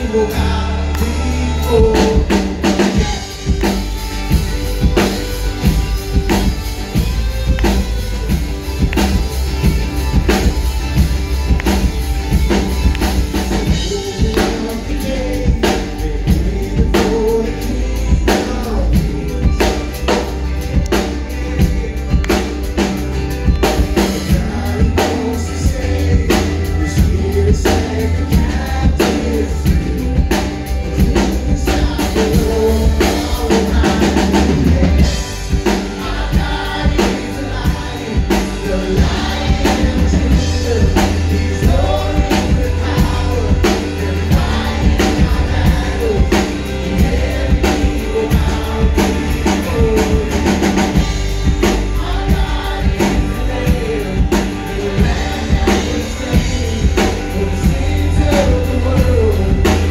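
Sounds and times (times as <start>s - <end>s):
man singing lead vocal: 0.0s - 9.4s, 12.5s - 59.9s
deep bass: 0.0s - 59.9s
drum kit beat: 0.0s - 59.9s
electric guitar: 0.0s - 59.9s
keyboard: 0.0s - 59.9s.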